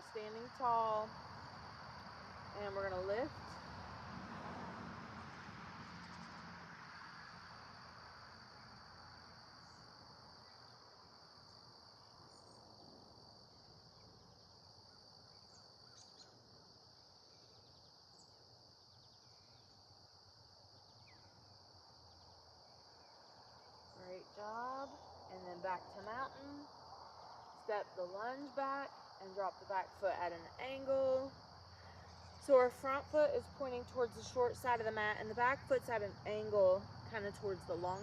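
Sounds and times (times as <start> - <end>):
higher insect trill: 0.0 - 38.0
steady high-pitched insect trill: 0.0 - 38.0.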